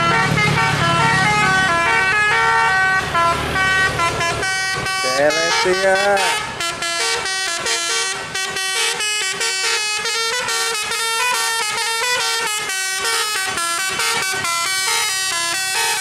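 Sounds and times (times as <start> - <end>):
musical bus air horn tune: 0.0 - 16.0.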